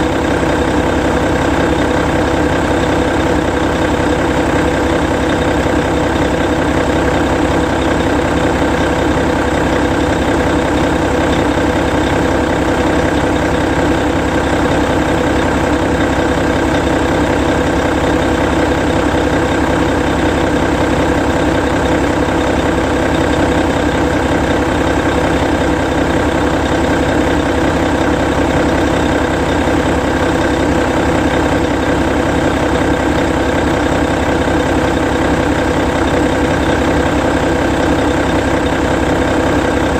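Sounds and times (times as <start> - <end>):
bus diesel engine idling: 0.0 - 39.9.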